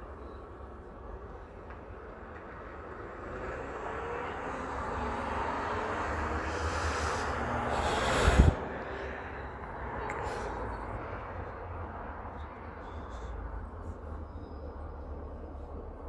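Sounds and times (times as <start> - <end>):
fire engine driving past: 2.2 - 16.0.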